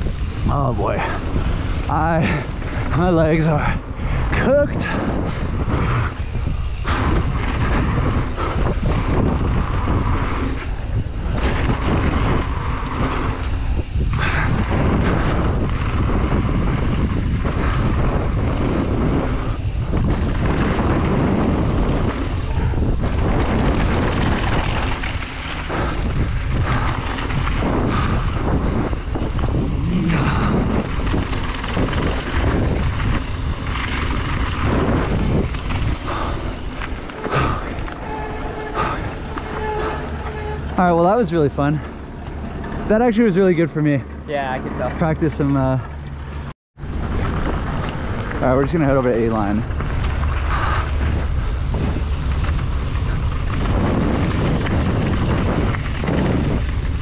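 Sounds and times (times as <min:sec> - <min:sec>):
mountain bike riding on trail: 0:00.0 - 0:57.0
wind buffeting microphone: 0:00.0 - 0:57.0.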